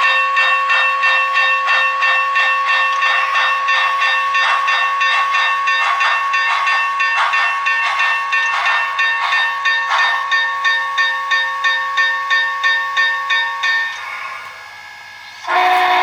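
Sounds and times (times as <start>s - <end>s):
model train steam chuffs: 0.0s - 16.0s
steady tones: 0.0s - 16.0s.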